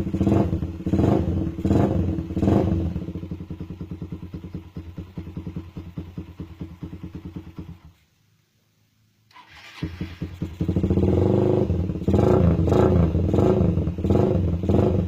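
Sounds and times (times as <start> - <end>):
motorcycle engine idling: 0.0 - 8.0, 9.8 - 15.0
motorcycle engine revving: 0.0 - 8.0, 9.3 - 15.0.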